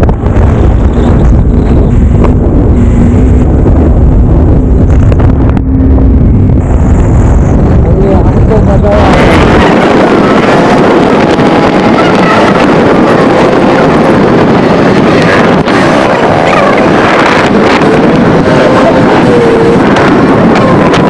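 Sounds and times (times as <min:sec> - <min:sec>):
motorcycle engine running: 0:00.0 - 0:21.0
wind rushing over microphone: 0:00.0 - 0:21.0.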